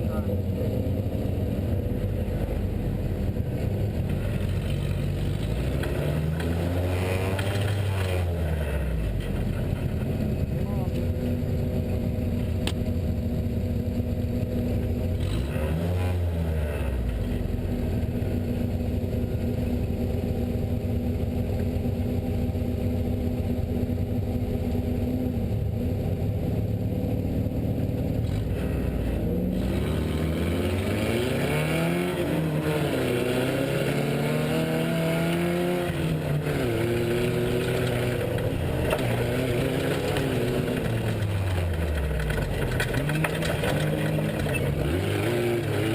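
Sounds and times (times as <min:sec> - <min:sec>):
truck engine revving: 0:00.0 - 0:18.6, 0:25.0 - 0:45.9.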